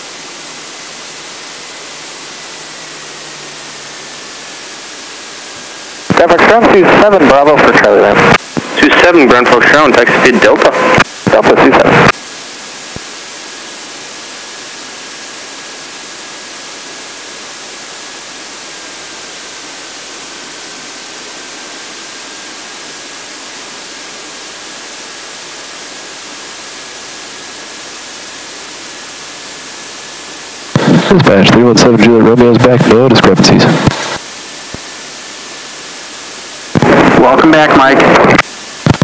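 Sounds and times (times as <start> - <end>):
intercom hiss: 0.0 - 12.2, 12.8 - 39.0
faint high whine: 0.0 - 39.0.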